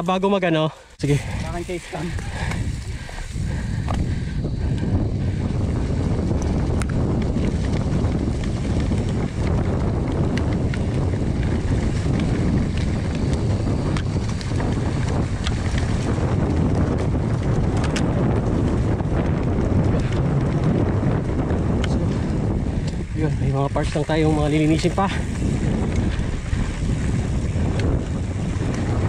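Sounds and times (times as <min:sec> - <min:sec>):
bike tyres rumbling on dirt: 0:00.1 - 0:29.0
wind on microphone: 0:00.8 - 0:29.0
bike clicks and rattles: 0:01.0 - 0:29.0.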